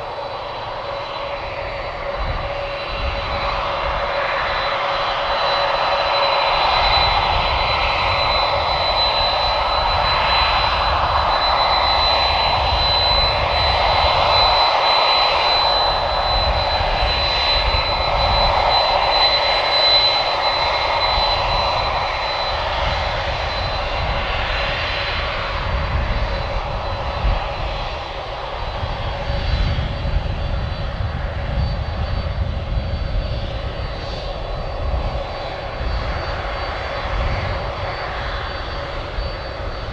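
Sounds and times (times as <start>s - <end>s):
jet engines whining at taxi power: 0.0s - 39.9s.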